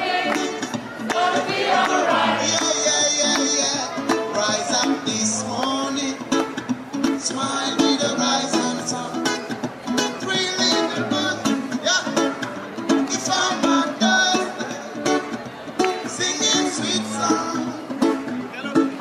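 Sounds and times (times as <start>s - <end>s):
acoustic guitar strumming reggae rhythm: 0.0s - 19.0s.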